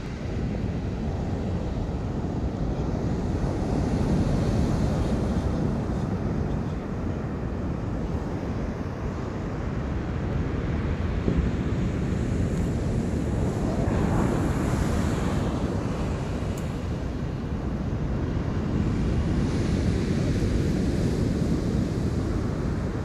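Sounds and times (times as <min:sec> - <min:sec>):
sea waves washing ashore: 0:00.0 - 0:23.0
wind rumbling on microphone: 0:00.0 - 0:23.0.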